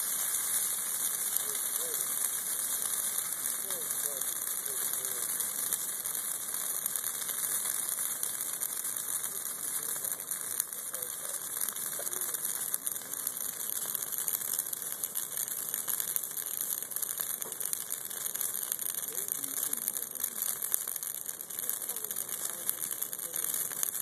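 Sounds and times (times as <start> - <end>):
burning branches crackling: 0.0 - 24.0
flames hissing: 0.0 - 24.0.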